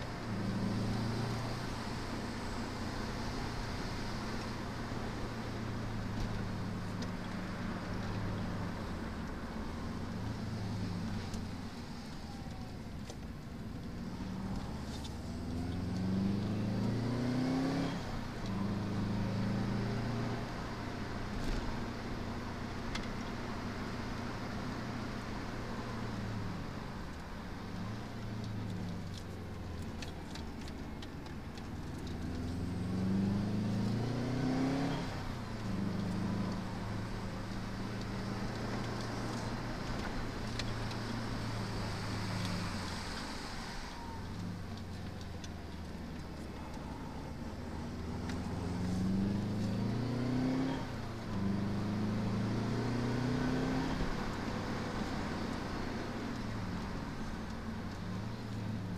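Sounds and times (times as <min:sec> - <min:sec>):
car engine revving: 0:00.0 - 0:58.9
road noise: 0:00.0 - 0:58.9.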